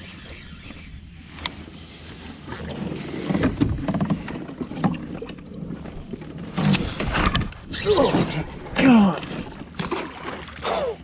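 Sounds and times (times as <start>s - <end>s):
wind: 0.0s - 11.0s
water washing against hull: 1.8s - 11.0s.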